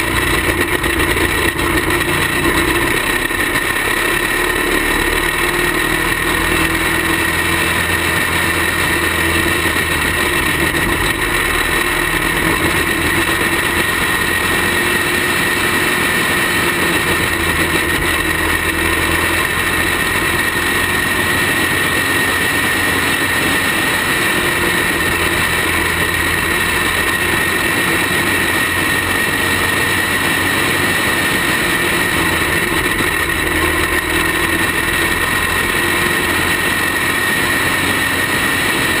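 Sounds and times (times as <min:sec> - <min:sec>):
kart engine running hard: 0:00.0 - 0:39.0.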